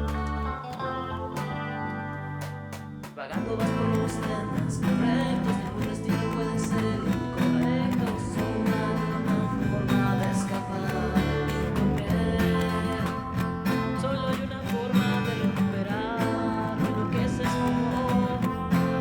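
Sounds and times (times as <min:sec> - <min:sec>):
guitar-led music with beat: 0:00.0 - 0:19.0
moving bass line: 0:00.0 - 0:19.0.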